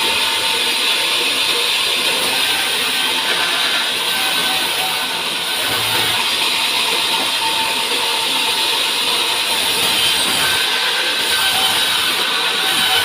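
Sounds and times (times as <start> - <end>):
sawmill saw running: 0.0 - 13.0.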